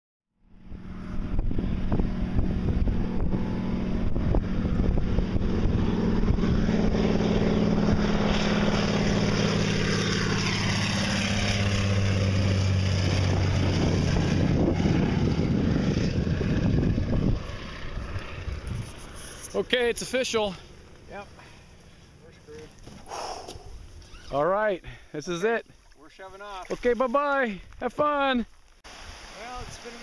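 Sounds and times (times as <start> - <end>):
propeller plane flying past: 0.4 - 25.5.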